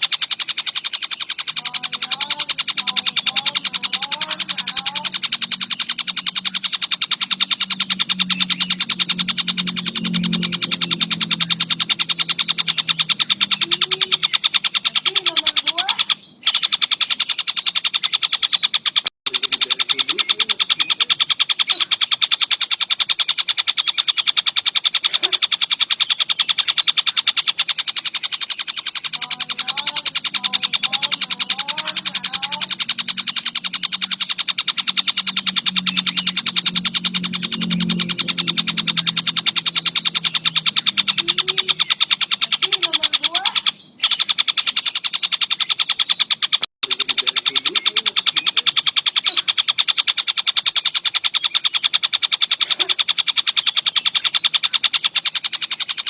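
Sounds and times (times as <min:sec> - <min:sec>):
kingfisher chattering call: 0:00.0 - 0:56.0.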